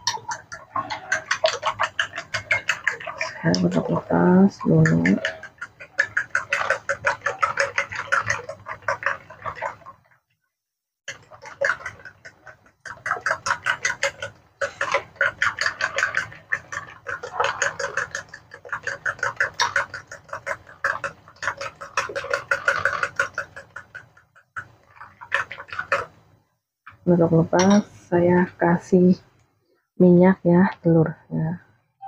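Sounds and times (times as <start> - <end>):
fork beating eggs in bowl: 0.0 - 10.2, 11.1 - 28.7.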